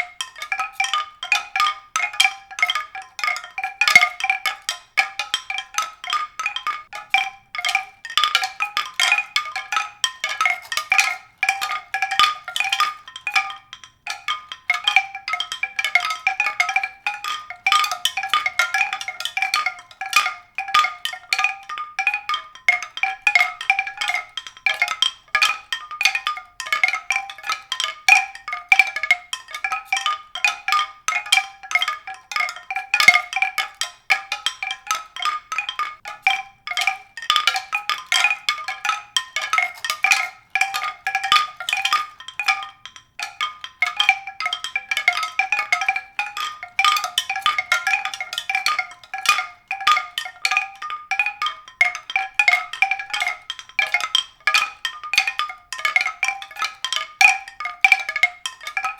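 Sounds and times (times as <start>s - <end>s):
bell-like mallet percussion music: 0.0s - 58.9s.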